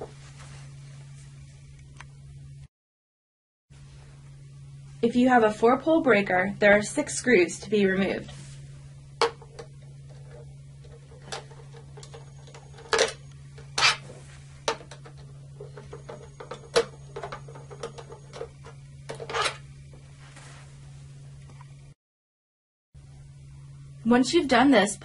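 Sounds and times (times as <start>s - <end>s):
steady low hum: 0.0s - 2.7s, 3.7s - 22.0s, 23.0s - 25.0s.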